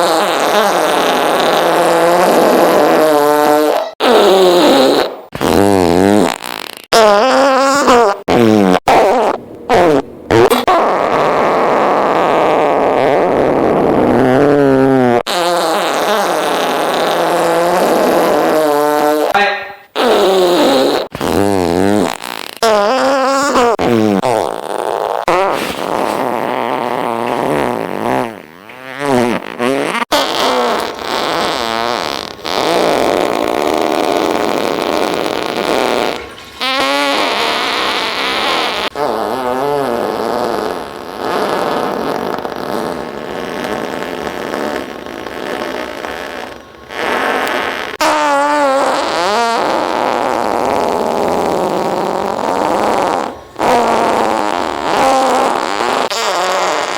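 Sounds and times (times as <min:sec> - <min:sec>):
fart sound effects: 0:00.0 - 0:56.9.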